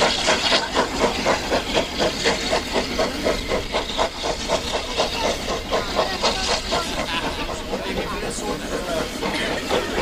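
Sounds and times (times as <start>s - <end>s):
steam locomotive chuffing: 0.0s - 10.0s
train low rumble: 0.0s - 10.0s.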